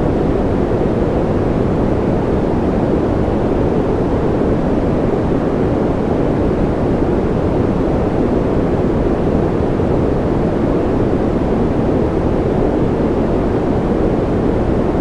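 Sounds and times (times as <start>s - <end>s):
deep white noise: 0.0s - 15.0s.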